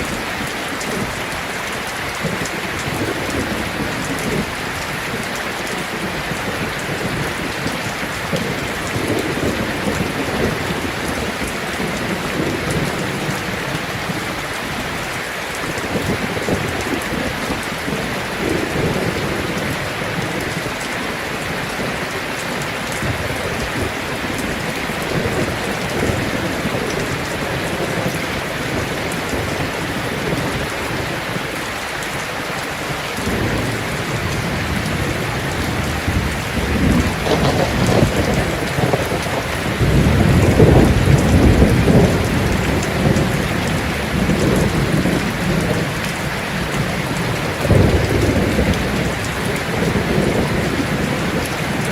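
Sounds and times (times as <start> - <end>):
heavy rain on a metal roof: 0.0 - 51.9
thunder rumbling: 2.2 - 31.6, 32.8 - 51.9.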